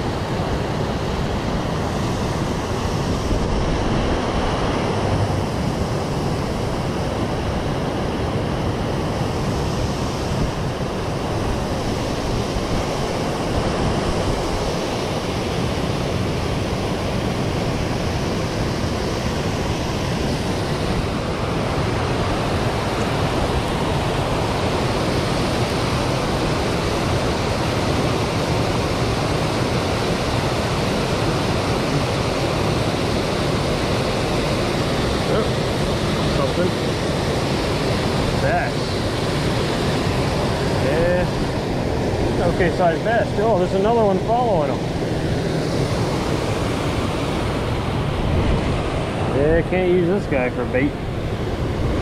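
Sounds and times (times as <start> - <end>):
water rushing over spillway: 0.0 - 52.0.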